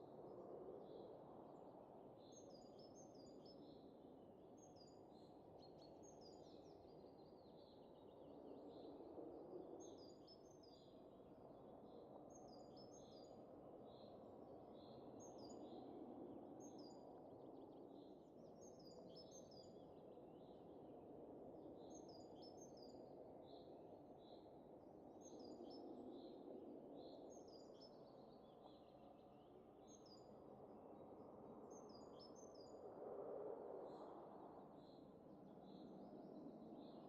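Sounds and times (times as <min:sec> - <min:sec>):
faint wind: 0:00.0 - 0:37.0.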